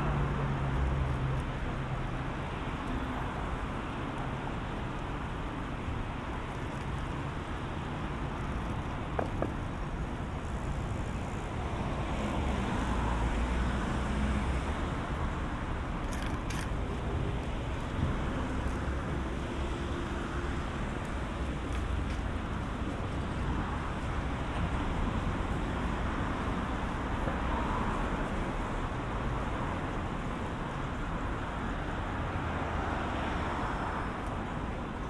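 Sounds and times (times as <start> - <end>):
cars rumbling on street: 0.0 - 35.0.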